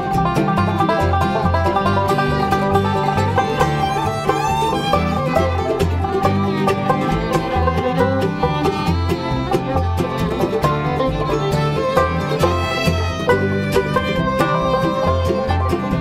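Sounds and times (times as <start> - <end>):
bluegrass band playing: 0.0 - 16.0
upright bass notes: 0.0 - 16.0.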